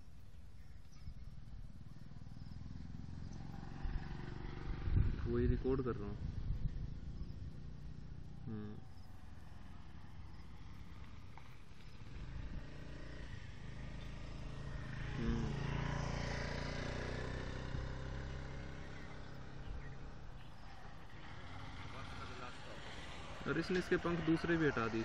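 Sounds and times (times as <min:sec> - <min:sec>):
vehicle engine passing: 0:01.4 - 0:25.0.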